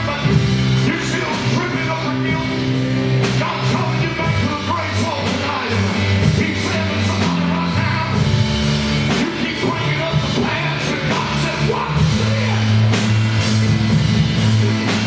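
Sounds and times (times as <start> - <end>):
person singing: 0.0 - 8.4, 9.1 - 13.0
live band playing: 0.0 - 15.0.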